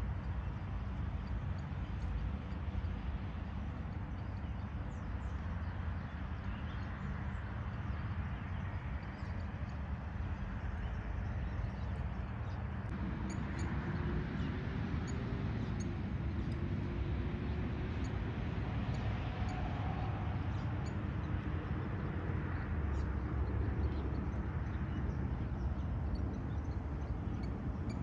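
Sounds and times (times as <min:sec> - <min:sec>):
faint steady hum: 0:00.0 - 0:28.0
low rumble with hiss: 0:00.0 - 0:28.0.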